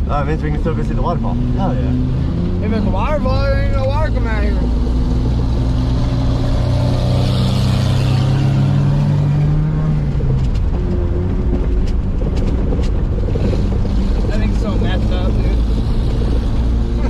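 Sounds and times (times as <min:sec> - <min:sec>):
vehicle engine under load: 0:00.0 - 0:17.0.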